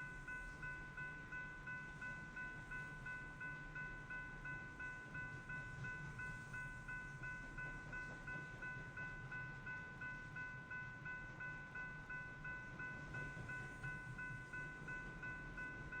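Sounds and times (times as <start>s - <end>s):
crossing warning bell ringing: 0.0s - 16.0s.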